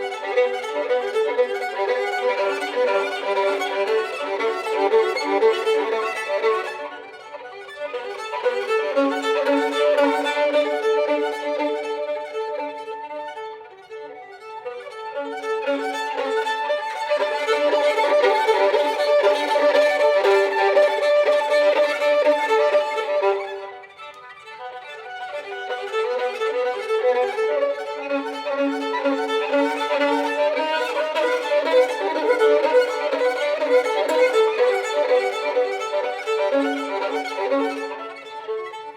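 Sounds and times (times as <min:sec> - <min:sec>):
violin playing: 0:00.0 - 0:38.9.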